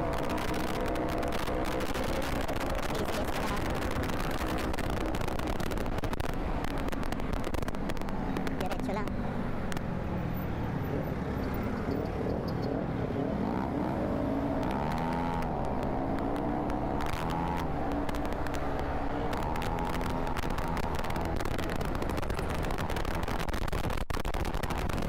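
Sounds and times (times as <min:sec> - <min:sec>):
wind rumble on microphone: 0:00.0 - 0:09.9, 0:11.0 - 0:25.0.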